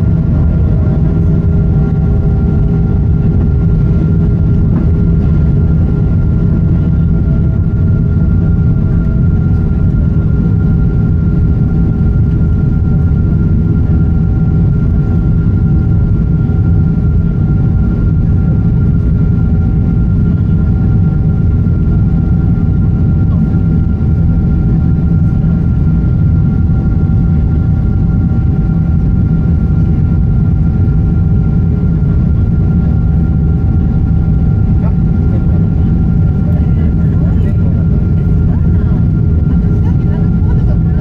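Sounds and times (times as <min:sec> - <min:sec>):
jet engines and rushing airflow: 0:00.0 - 0:41.0.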